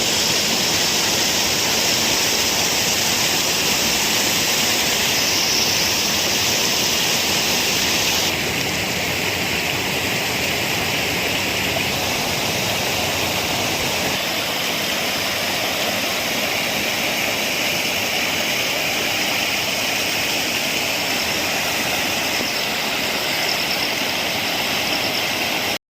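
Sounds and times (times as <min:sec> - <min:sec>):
rushing water: 0:00.0 - 0:25.8.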